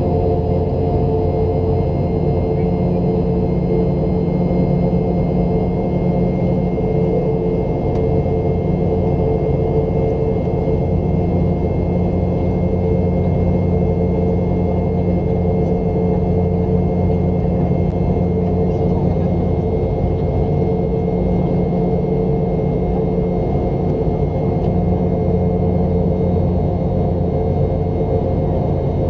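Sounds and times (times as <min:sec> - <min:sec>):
jet engines droning: 0:00.0 - 0:29.0.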